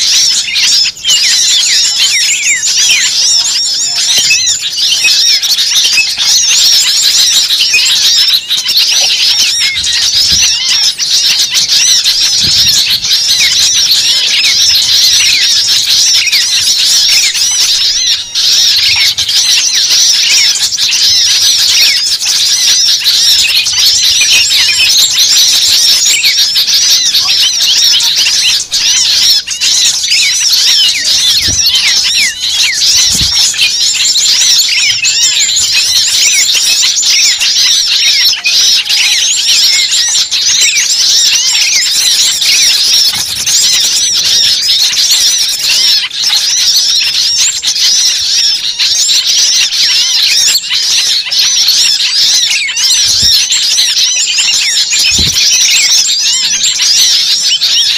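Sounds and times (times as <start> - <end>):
chorus of small birds chirping: 0.0 - 57.9.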